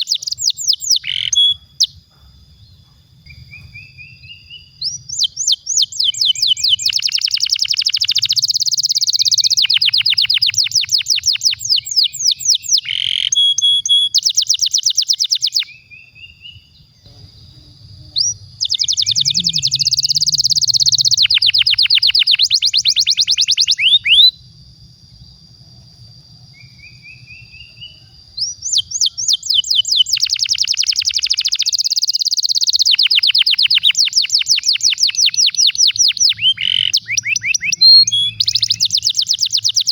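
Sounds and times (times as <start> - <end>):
faint low hum: 0.0 - 14.5, 15.5 - 30.2, 33.0 - 39.9
canary singing trills: 0.0 - 24.5, 26.4 - 39.9.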